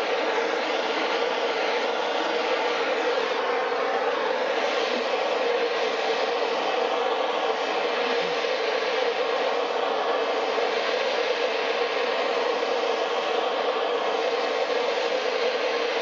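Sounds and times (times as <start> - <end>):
heat tool rushing noise: 0.0 - 16.0.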